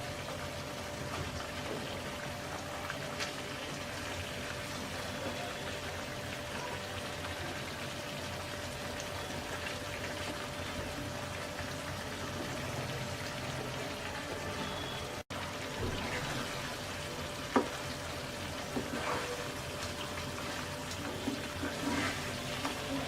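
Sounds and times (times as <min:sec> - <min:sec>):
masala simmering and sizzling: 0:00.0 - 0:23.0.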